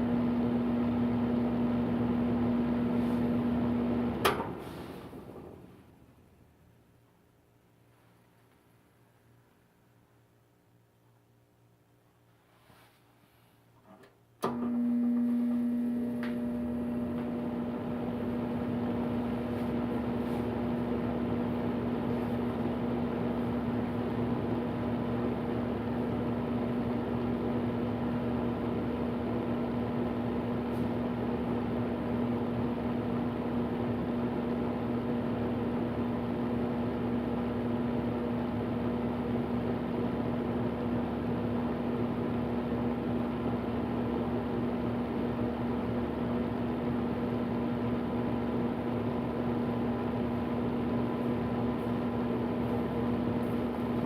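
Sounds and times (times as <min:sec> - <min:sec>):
fan heater air rushing: 0:00.0 - 0:06.1, 0:15.4 - 0:54.0.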